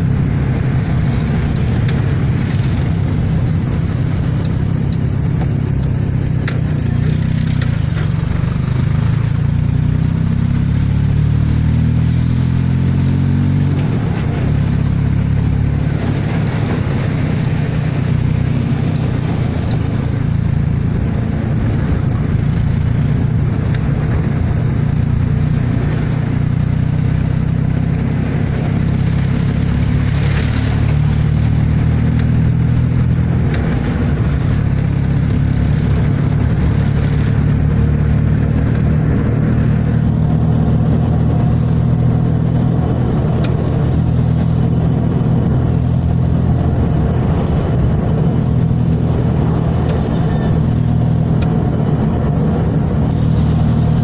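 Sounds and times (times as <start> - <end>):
car engine pulling: 0.0 - 54.0
road noise: 0.0 - 54.0.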